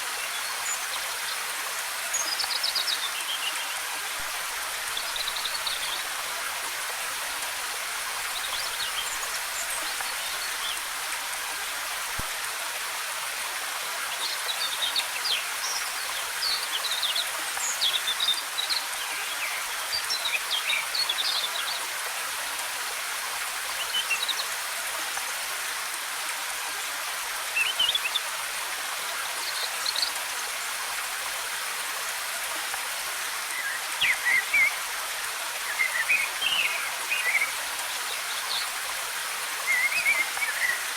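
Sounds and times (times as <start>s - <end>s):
waterfall cascading water: 0.0s - 40.9s.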